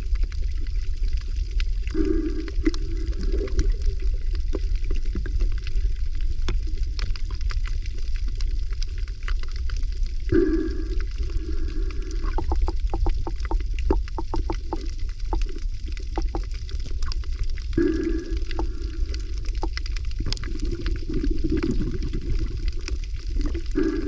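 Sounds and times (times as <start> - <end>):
underwater rumble of water: 0.0 - 24.0.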